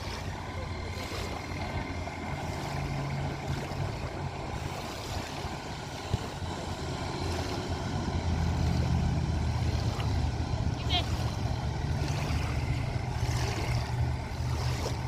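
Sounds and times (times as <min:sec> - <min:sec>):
toy boat motor whine: 0:00.0 - 0:15.0
wind buffeting microphone: 0:00.0 - 0:15.0.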